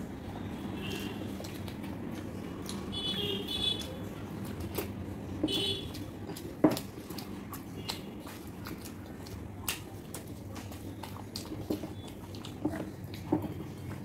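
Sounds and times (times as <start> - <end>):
people chewing crisp food: 0.0 - 14.0.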